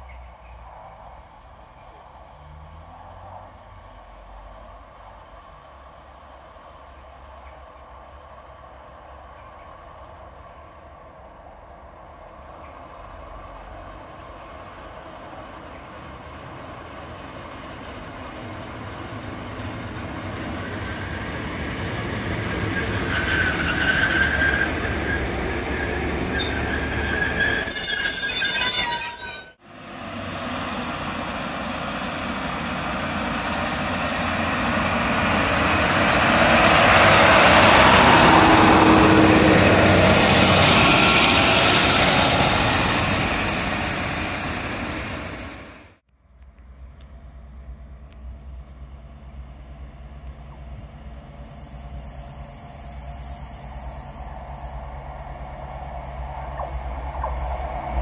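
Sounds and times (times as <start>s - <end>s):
trains passing: 0.0s - 46.0s, 46.6s - 58.0s.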